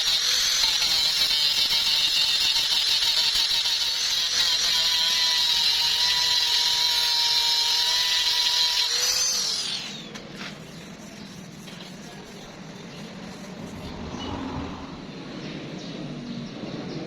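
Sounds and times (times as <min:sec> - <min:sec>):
power tool whining: 0:00.0 - 0:13.9.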